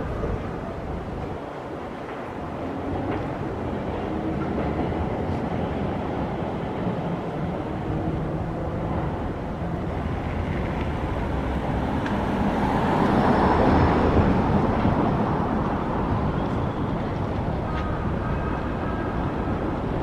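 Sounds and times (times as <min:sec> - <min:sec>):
street traffic rumbling: 0:00.0 - 0:20.0.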